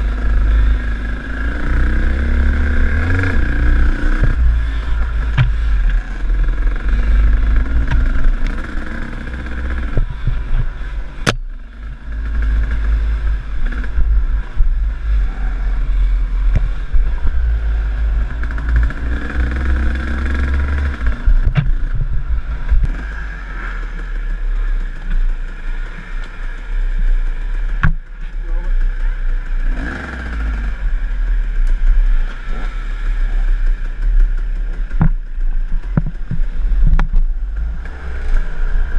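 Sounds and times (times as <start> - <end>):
dirt bike engine revving: 0.0 - 27.8, 28.4 - 36.8.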